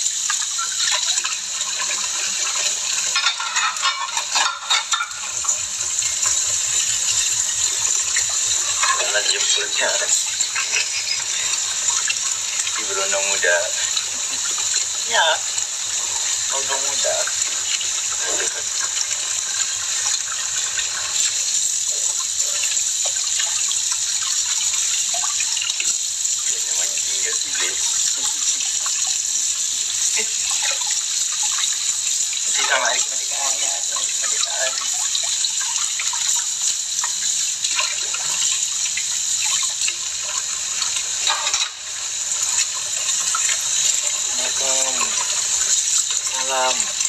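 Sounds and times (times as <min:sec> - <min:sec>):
water running from a tap: 0:00.0 - 0:47.0.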